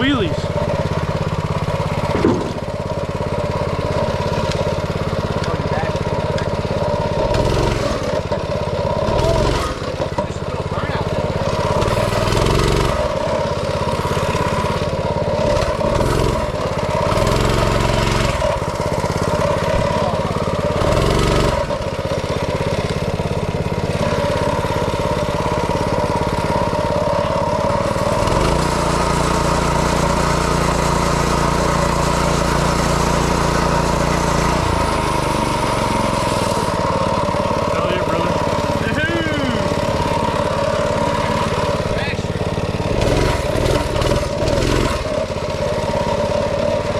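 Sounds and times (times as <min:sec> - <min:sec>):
small engine revving: 0:00.0 - 0:46.9.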